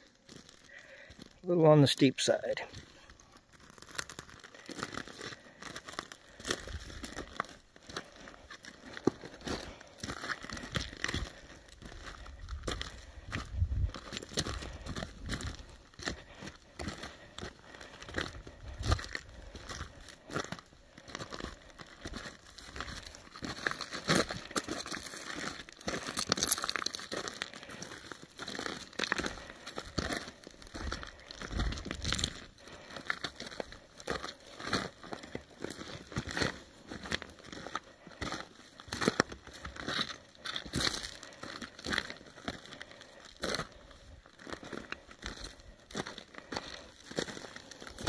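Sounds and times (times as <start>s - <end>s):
footsteps crunching on rocky ground: 0.0s - 48.0s.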